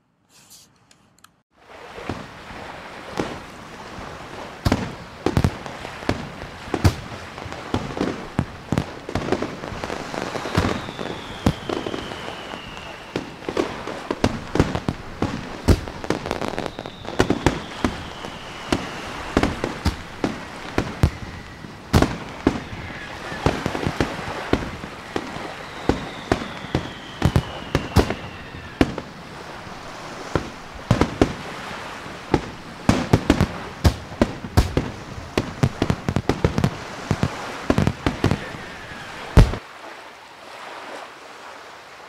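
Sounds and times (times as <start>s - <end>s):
fireworks bangs and crackle: 1.9s - 39.6s
falling firework whistles: 3.2s - 39.6s.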